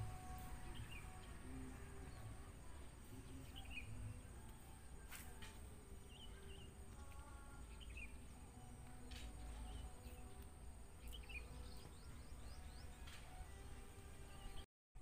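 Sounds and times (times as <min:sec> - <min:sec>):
steady high-pitched hiss: 0:00.0 - 0:14.6
small bird chirping: 0:00.1 - 0:04.9, 0:06.0 - 0:13.6.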